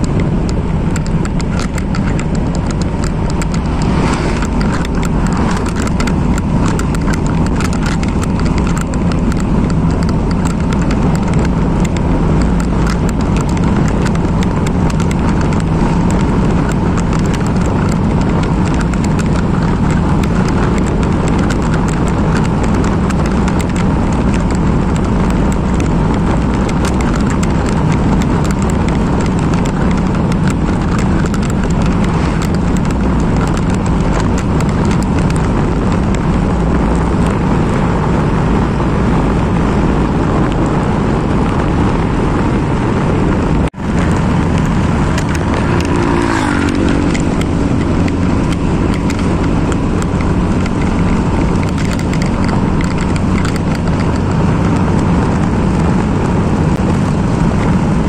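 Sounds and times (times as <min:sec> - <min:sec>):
small clicks and knocks: 0:00.0 - 0:38.1, 0:43.0 - 0:58.0
motorcycle engine and road rumble: 0:00.0 - 0:58.0.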